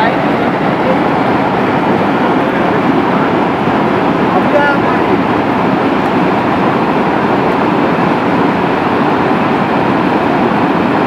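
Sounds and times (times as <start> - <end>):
flash flood torrent rushing: 0.0 - 11.0.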